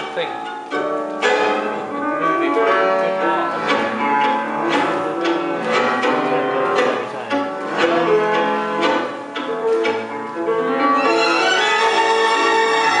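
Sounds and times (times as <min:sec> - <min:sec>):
tango music: 0:00.0 - 0:13.0.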